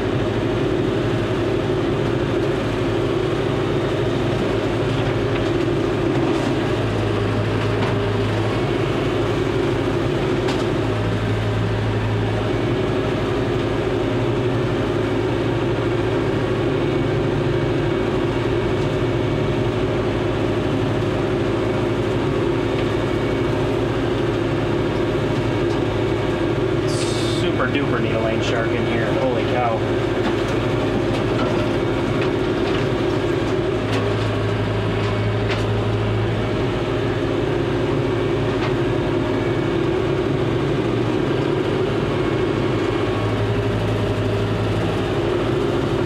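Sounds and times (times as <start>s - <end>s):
tractor diesel engine droning: 0.0s - 46.0s.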